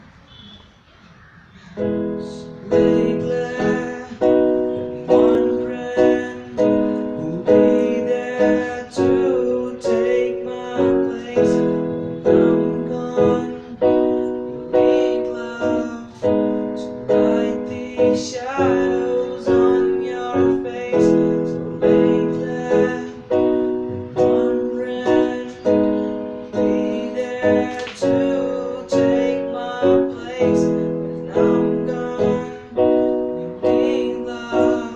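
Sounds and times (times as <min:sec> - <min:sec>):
piano chords: 0:01.7 - 0:34.9.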